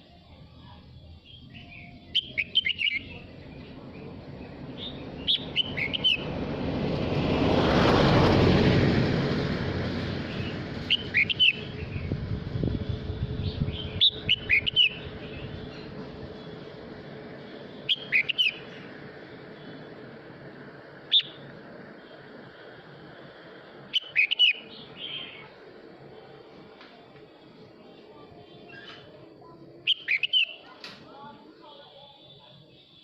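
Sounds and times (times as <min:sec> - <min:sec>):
bulbul singing warbling phrases: 0:00.0 - 0:06.4, 0:10.2 - 0:26.4, 0:27.6 - 0:33.0
rushing noise: 0:01.6 - 0:28.4.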